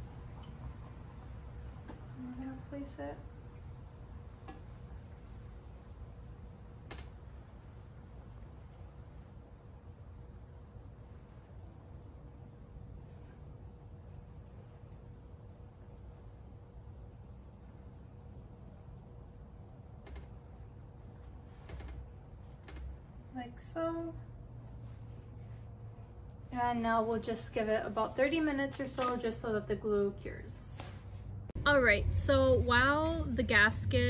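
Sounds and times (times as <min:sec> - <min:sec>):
insects trilling: 0:00.0 - 0:34.0
low steady hum: 0:00.0 - 0:34.0.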